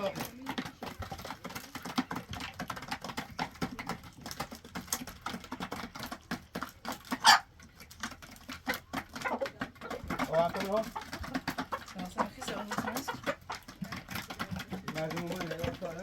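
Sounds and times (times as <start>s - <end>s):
rapid irregular clicking and tapping: 0.0s - 16.0s.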